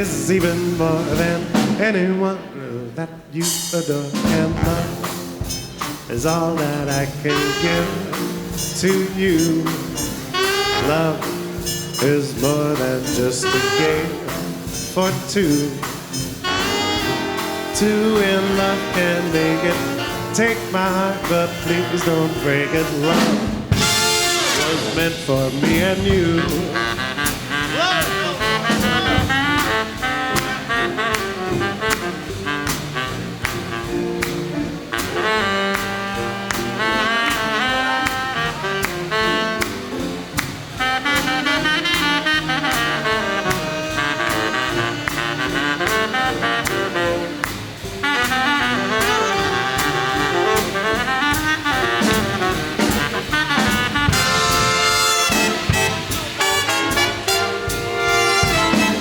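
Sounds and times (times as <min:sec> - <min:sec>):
drums keeping a beat: 0:00.0 - 0:02.2, 0:03.2 - 0:59.0
big band swing music: 0:00.0 - 0:59.0
baritone saxophone solo: 0:06.7 - 0:59.0.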